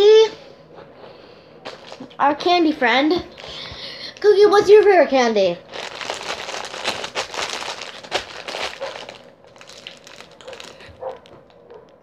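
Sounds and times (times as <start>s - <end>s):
crinkling handling noise: 0.8s - 2.2s, 3.1s - 12.0s.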